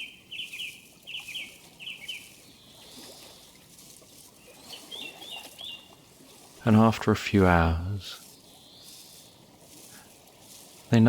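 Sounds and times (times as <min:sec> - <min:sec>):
running water hiss: 0:00.0 - 0:11.0
songbird chirping: 0:00.0 - 0:11.0.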